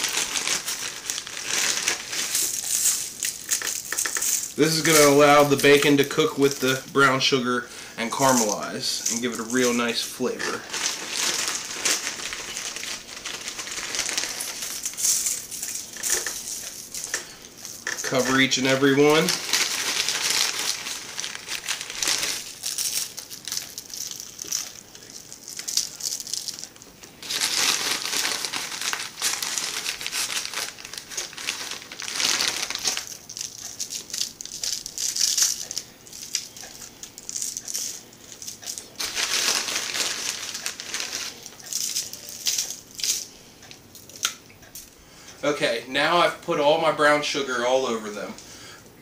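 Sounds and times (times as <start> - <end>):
aluminium foil crinkling: 0.0 - 7.4, 8.0 - 44.9
plastic bag crinkling: 0.0 - 44.9.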